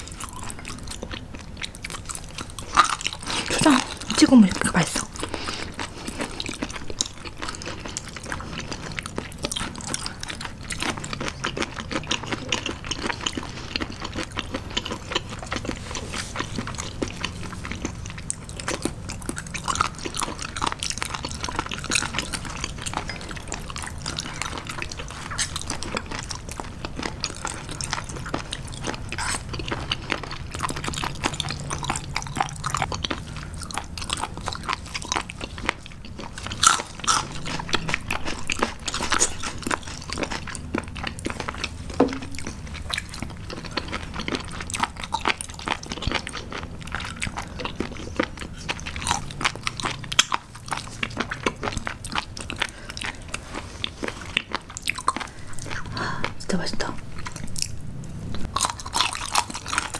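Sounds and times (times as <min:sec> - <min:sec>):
crunchy chewing: 0:00.0 - 0:56.4, 0:57.0 - 0:59.9.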